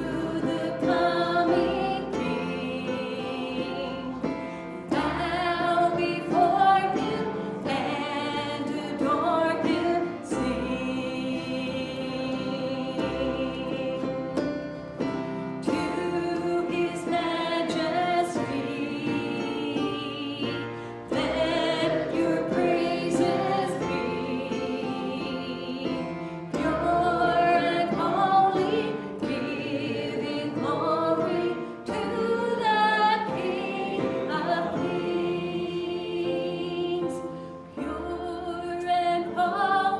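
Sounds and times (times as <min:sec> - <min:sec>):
gospel singing by several voices: 0:00.0 - 0:39.9
instrumental accompaniment: 0:00.0 - 0:39.9.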